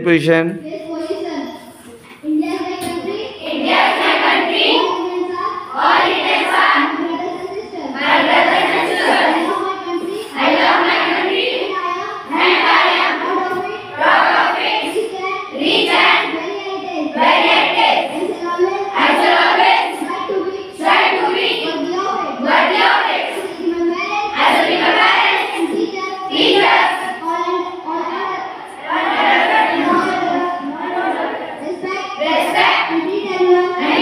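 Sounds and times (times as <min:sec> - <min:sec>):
children reciting in unison: 0:00.7 - 0:34.0.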